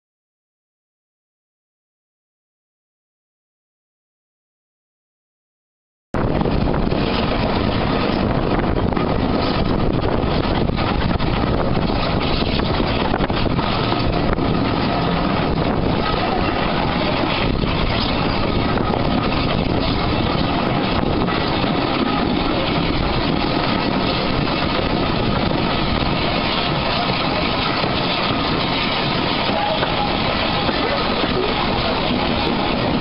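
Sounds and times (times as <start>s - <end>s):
steam locomotive running: 6.2s - 33.0s
wind buffeting microphone: 6.2s - 33.0s.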